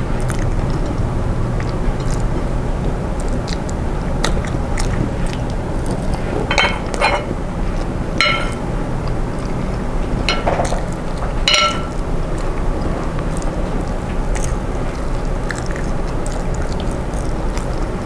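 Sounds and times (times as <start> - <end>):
chewing with wet smacks and crunches: 0.0 - 18.0
steady low hum: 0.0 - 18.0.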